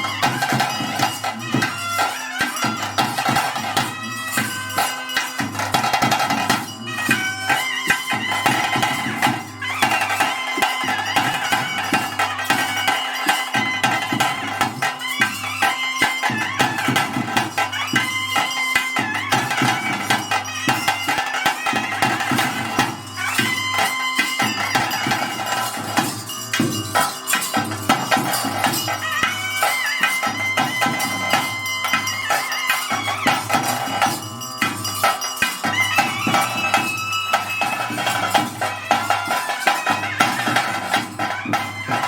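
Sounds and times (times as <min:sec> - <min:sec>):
drums beating: 0:00.0 - 0:42.0
jingling percussion: 0:00.0 - 0:42.0.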